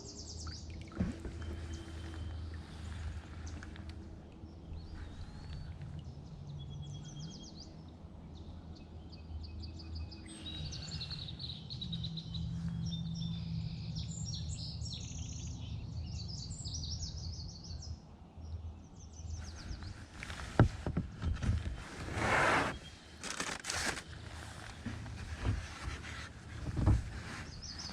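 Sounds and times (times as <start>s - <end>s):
songbirds chirping and trilling: 0.0s - 27.9s.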